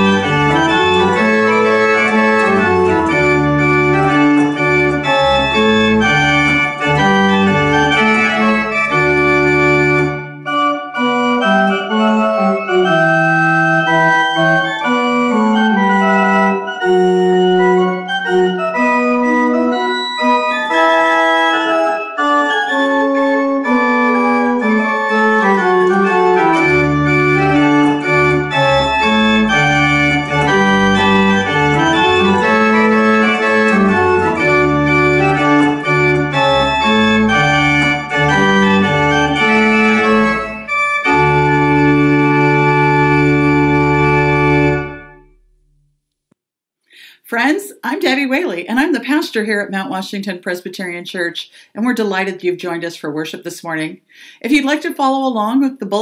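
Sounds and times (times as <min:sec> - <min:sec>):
deep organ pedal bass: 0:00.0 - 0:45.8
pipe organ chords: 0:00.0 - 0:45.8.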